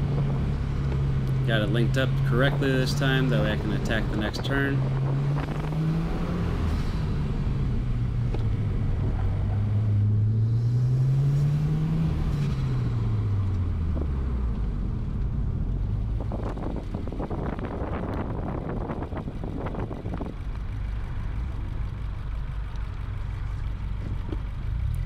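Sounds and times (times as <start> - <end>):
car engine revving under load: 0.0 - 25.0.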